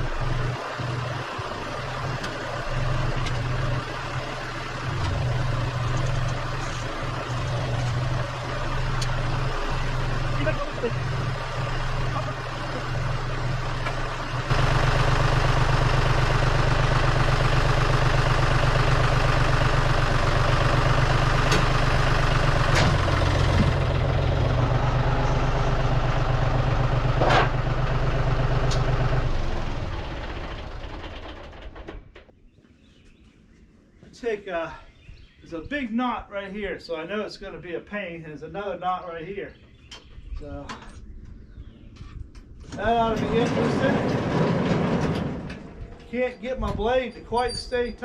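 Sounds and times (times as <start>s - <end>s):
engine running: 0.0s - 32.4s, 39.3s - 48.0s.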